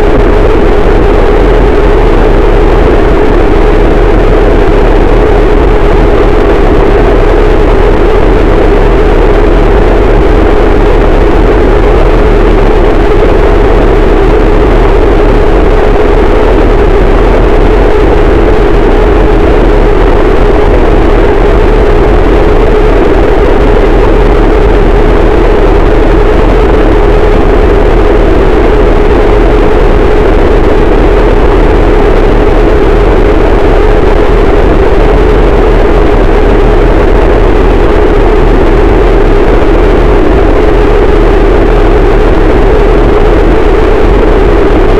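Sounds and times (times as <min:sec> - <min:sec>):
deep rumble: 0:00.0 - 0:44.9
distorted static noise: 0:00.0 - 0:44.9.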